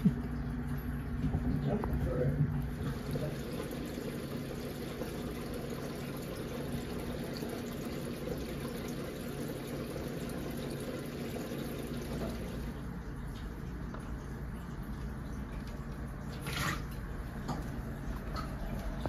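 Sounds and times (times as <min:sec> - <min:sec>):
running splashing water: 0:00.0 - 0:19.0.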